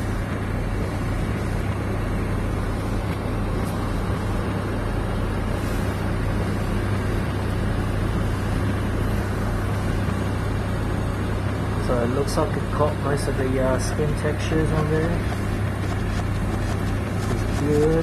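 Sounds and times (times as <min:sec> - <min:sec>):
extractor fan running: 0:00.0 - 0:18.0.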